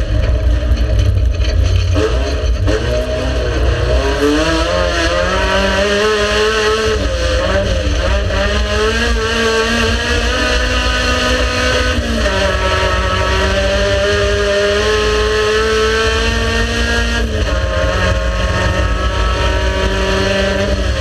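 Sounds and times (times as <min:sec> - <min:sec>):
race car engine revving: 0:00.0 - 0:21.0.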